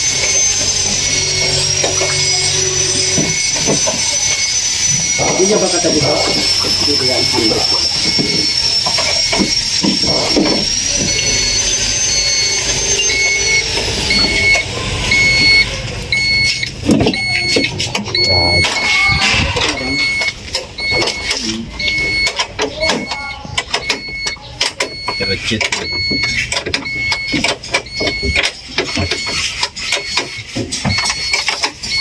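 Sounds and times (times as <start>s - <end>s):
electronic beep: 0.0s - 32.0s
high whine: 0.0s - 32.0s.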